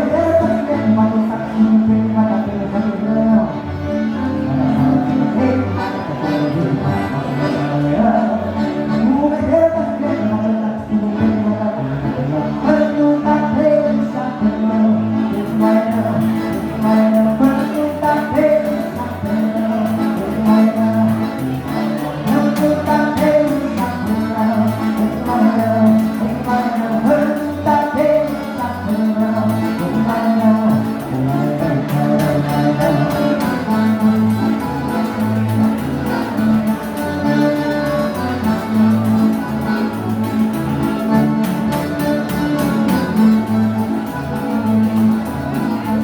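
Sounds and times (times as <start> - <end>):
person singing: 0.0 - 40.4
live dance-band music: 0.0 - 46.0
repeating bass line: 0.0 - 46.0.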